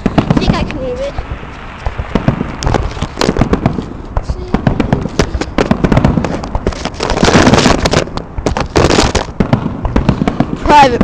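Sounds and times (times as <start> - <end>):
fireworks bangs and pops: 0.0 - 11.0
fireworks crackling: 0.0 - 11.0.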